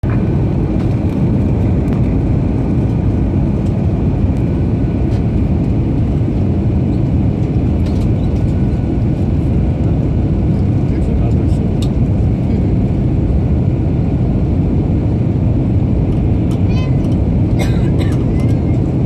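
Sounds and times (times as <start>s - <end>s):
airliner cabin roar: 0.0s - 19.0s.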